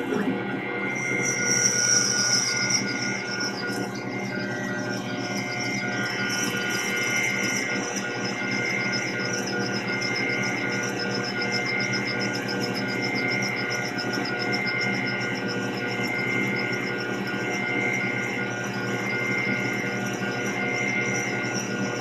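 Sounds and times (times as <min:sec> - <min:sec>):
lathe motor whine: 0:00.0 - 0:22.0.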